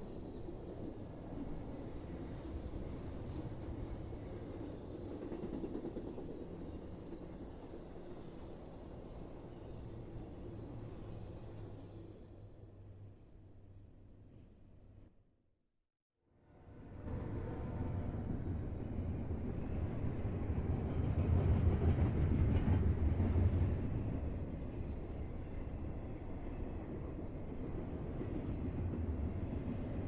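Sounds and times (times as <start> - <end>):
train rumbling on tracks: 0.0 - 13.1, 16.7 - 30.0.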